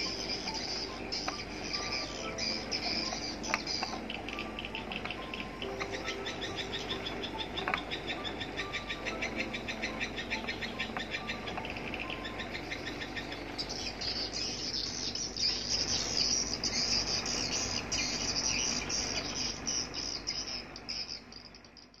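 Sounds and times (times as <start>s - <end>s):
louder higher chirping: 0.0s - 22.0s
swiftlets twittering: 0.0s - 22.0s.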